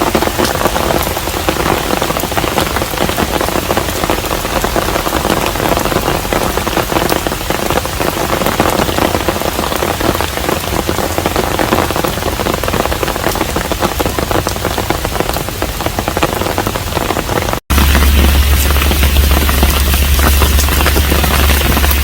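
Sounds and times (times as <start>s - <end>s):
raindrops ticking: 0.0s - 22.0s
steady rain falling: 0.0s - 22.0s.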